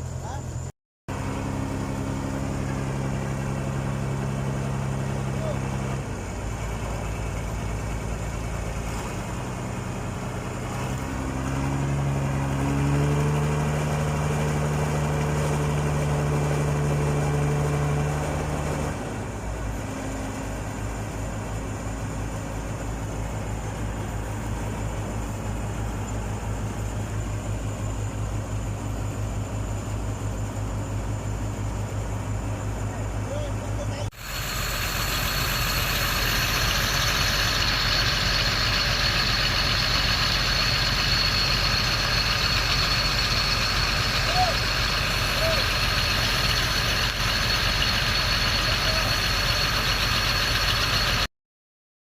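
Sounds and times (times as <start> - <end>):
diesel engine revving and idling: 0.0 - 51.3.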